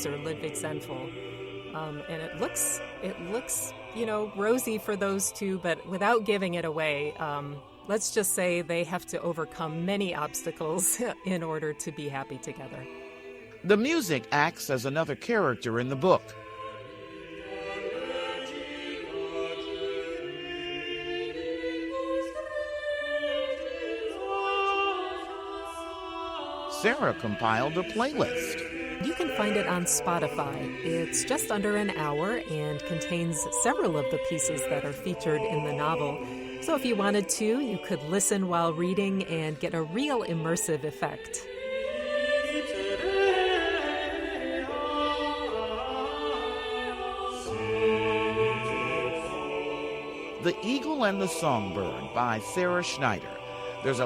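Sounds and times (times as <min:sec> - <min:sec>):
choir singing held notes: 0:00.0 - 0:11.5, 0:12.4 - 0:54.0.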